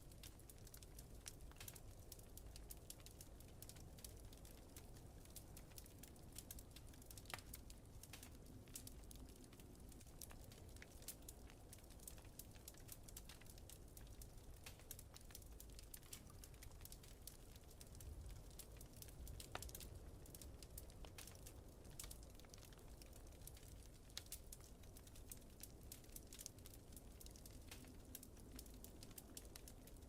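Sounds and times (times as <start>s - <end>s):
faint low rumble of wind: 0.0s - 30.0s
wood fire crackling and popping: 0.0s - 30.0s.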